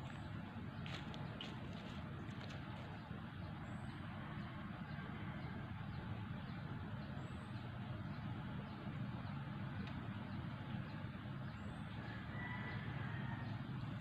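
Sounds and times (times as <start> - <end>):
distant boat engine drone: 0.0 - 14.0.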